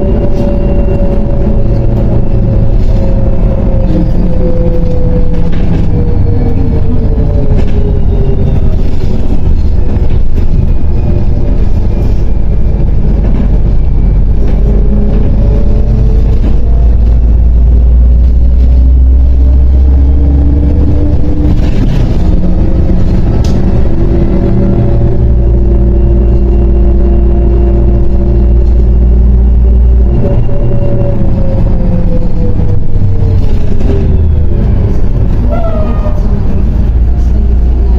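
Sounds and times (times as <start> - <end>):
bus engine rumble and whine: 0.0 - 37.9.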